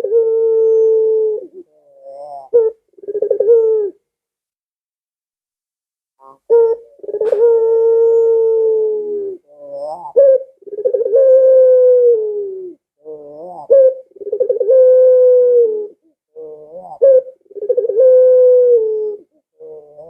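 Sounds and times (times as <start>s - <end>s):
dove cooing: 0.0s - 4.0s, 6.2s - 20.0s.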